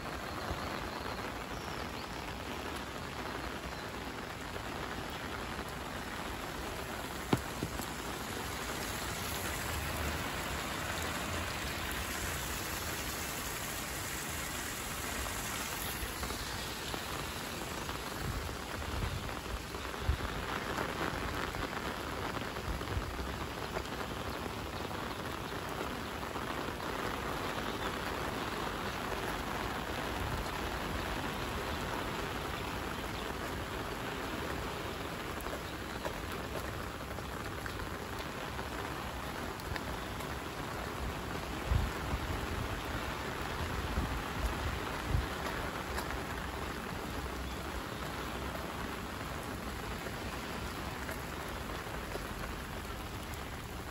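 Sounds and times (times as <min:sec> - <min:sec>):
rain on pavement and grass: 0:00.0 - 0:53.9.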